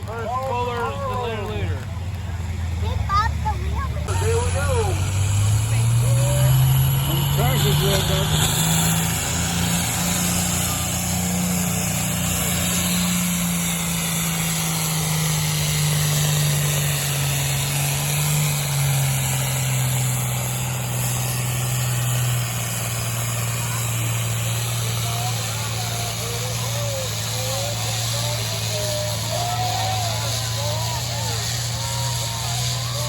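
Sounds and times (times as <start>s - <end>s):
pulling tractor engine running: 0.0s - 33.0s.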